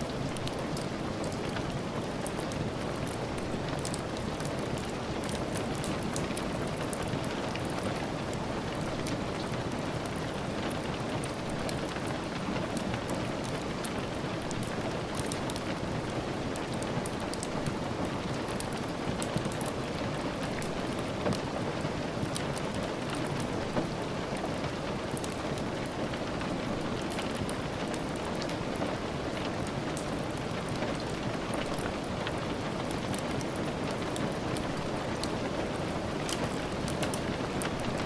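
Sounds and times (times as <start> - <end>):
steady rain falling: 0.0 - 38.0
wood fire crackling: 0.0 - 38.0.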